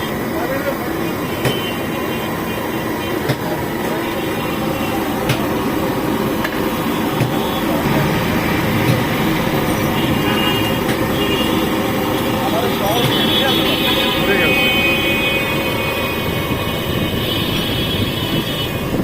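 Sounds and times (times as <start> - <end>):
street traffic din: 0.0 - 19.0.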